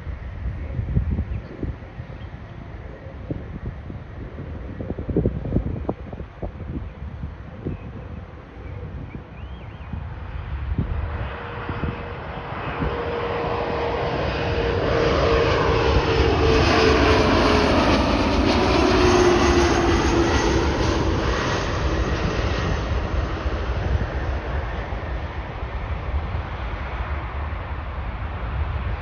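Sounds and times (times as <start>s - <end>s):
jet engine whine passing by: 0.0s - 29.0s.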